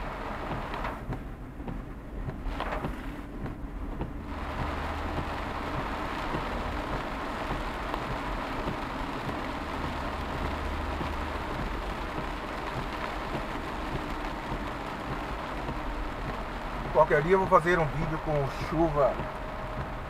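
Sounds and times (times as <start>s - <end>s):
car driving on wet road: 0.0s - 20.0s
rain on a car: 0.0s - 20.0s.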